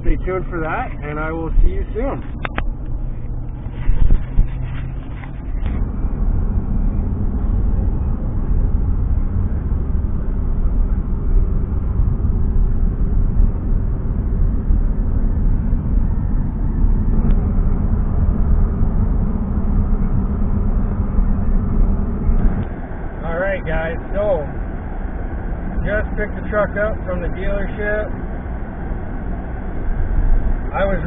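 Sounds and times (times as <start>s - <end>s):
pickup truck engine and road noise: 0.0s - 31.0s.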